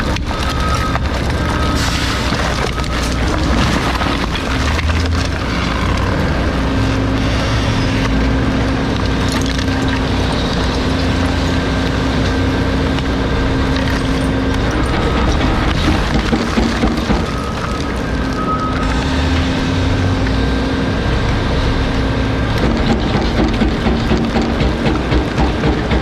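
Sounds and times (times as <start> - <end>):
wood crackling and splintering: 0.0 - 26.0.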